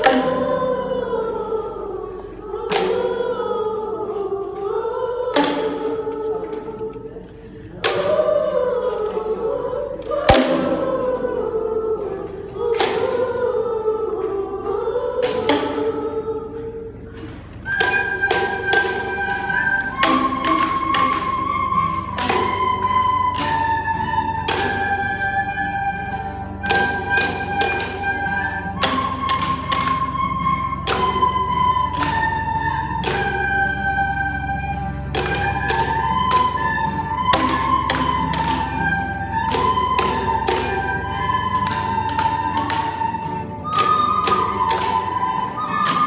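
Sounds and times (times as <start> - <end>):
children singing in unison: 0.0 - 46.0
recorders playing held notes: 0.0 - 46.0.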